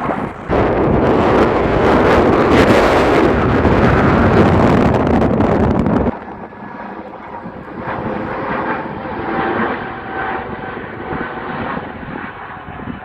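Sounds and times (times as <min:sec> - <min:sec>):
jet engines at takeoff: 0:00.0 - 0:13.0.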